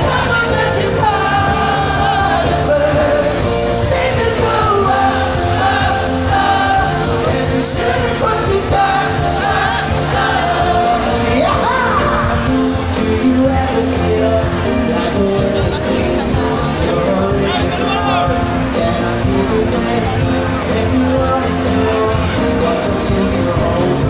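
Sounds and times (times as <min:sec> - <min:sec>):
live band playing with singing: 0:00.0 - 0:24.0.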